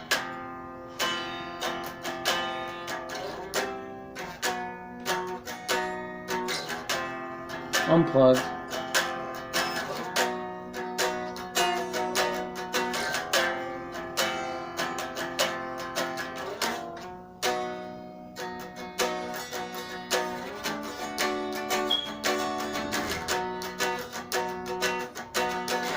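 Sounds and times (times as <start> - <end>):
acoustic guitar playing: 0.0 - 25.9.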